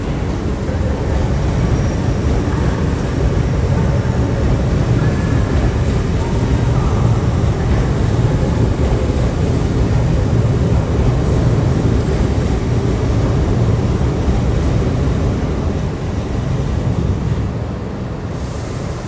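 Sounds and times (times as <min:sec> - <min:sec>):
train passing low rumble: 0:00.0 - 0:19.0.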